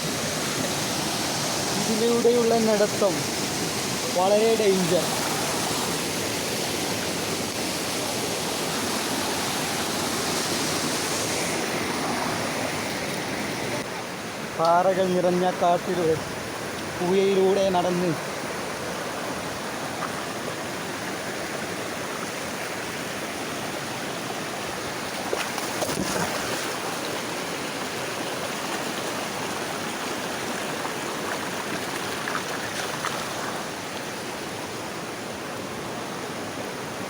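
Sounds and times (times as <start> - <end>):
mountain stream over stones: 0.0 - 37.0.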